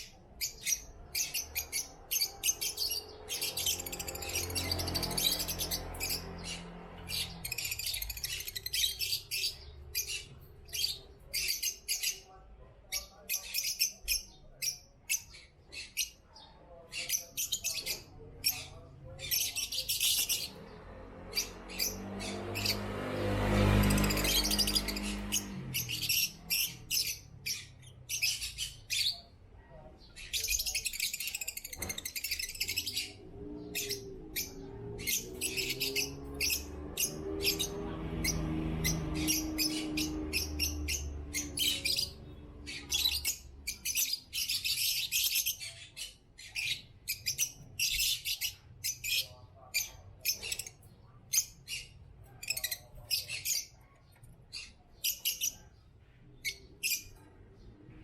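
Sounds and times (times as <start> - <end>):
lovebirds chirping: 0.0 - 58.0.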